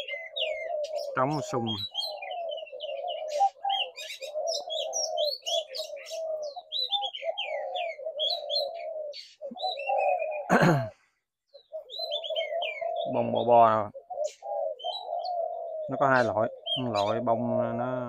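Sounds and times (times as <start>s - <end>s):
doves cooing: 0.0s - 18.0s
small birds chirping: 0.0s - 18.0s.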